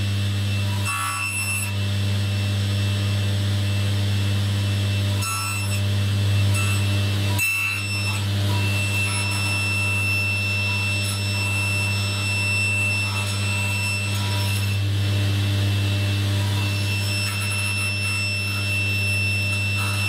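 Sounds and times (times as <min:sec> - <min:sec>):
table saw running: 0:00.0 - 0:20.0.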